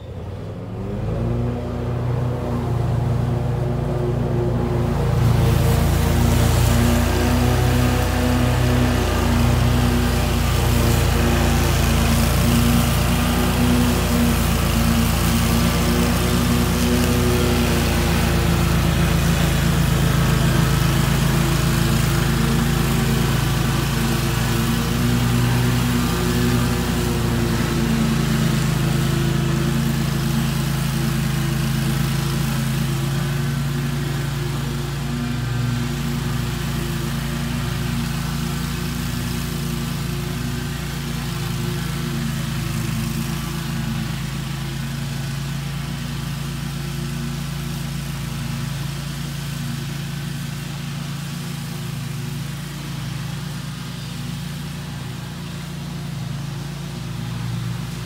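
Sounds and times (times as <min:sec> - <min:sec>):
riding mower engine cutting grass: 0:00.0 - 0:58.0.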